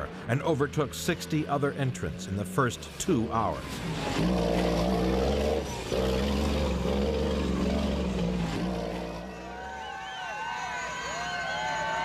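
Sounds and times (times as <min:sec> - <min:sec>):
diesel truck engine running hard: 0:00.0 - 0:10.1.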